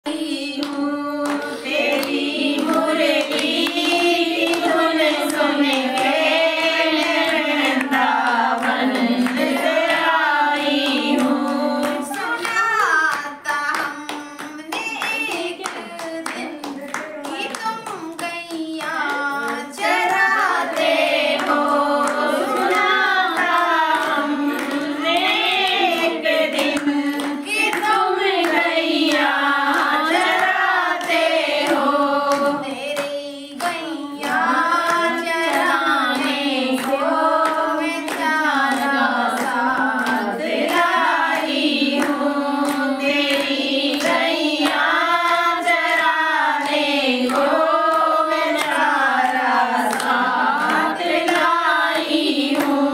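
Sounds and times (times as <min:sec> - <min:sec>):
women singing devotional song: 0:00.0 - 0:52.9
hands clapping: 0:00.1 - 0:52.9.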